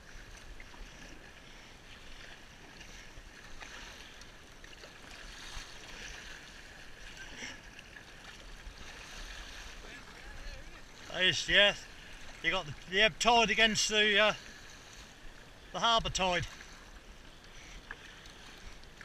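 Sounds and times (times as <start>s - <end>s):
water splashing against kayak hull: 0.0s - 19.0s.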